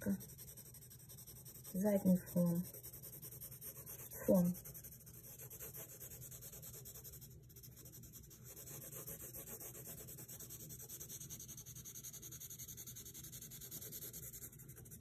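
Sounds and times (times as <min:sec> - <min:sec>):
pencil shading on paper: 0:00.0 - 0:15.0.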